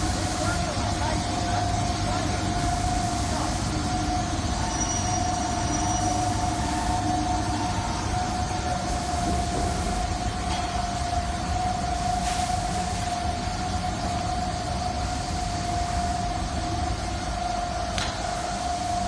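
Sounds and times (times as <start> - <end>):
machinery whine and rumble: 0.0 - 19.0.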